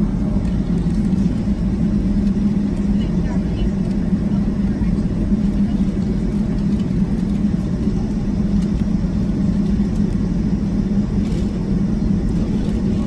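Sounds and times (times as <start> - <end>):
airplane cabin rumble while taxiing: 0.0 - 13.0
jet engines humming: 0.0 - 13.0.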